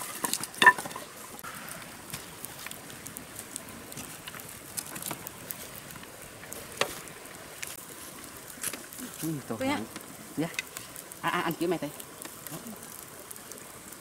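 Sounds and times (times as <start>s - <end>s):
firewood sticks clattering: 0.0s - 13.1s
wood fire crackling: 0.0s - 14.0s.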